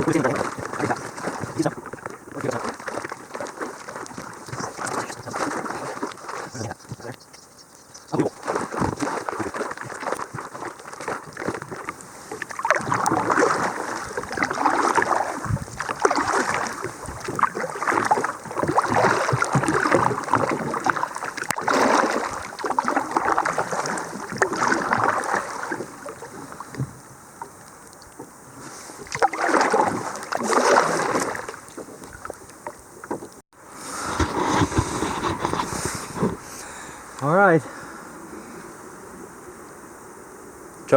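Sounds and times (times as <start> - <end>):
paddle splashing in water: 0.0 - 7.1, 8.1 - 37.8
wind: 0.0 - 40.9.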